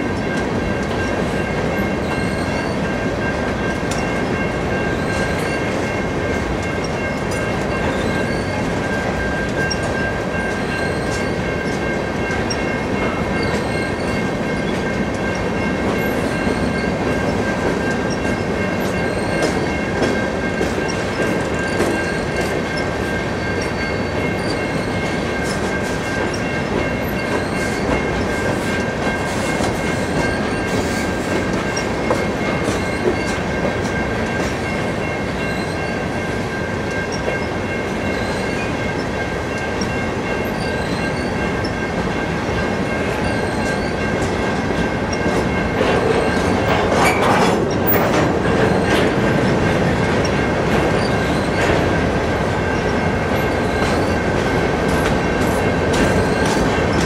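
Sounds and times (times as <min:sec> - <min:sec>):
train wheels clacking over rail joints: 0:00.0 - 0:57.0.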